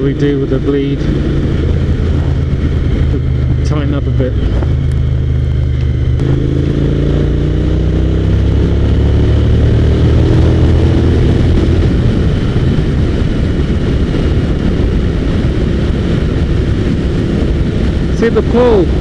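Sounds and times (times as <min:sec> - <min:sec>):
motorcycle engine accelerating: 0:00.0 - 0:19.0
wind and road rush: 0:00.0 - 0:19.0.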